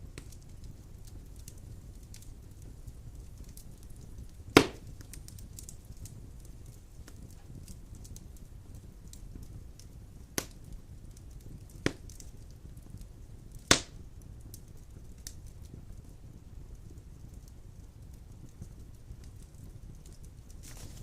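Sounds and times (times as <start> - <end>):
faint fire crackling: 0.0 - 21.0
flame rumbling: 0.0 - 21.0
sharp pops of burning logs: 0.0 - 21.0.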